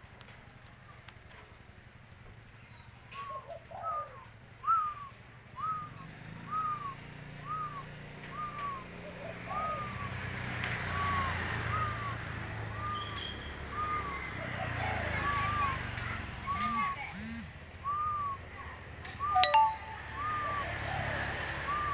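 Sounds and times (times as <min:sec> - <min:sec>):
dove calling: 0:02.6 - 0:21.9.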